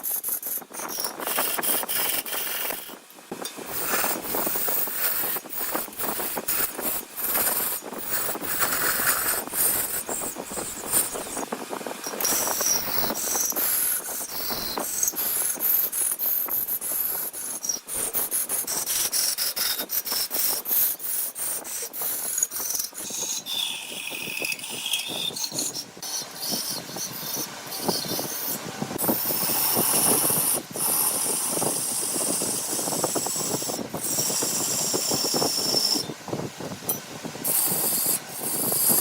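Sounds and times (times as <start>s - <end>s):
lathe tool scraping wood: 0.0s - 36.2s, 36.9s - 39.0s.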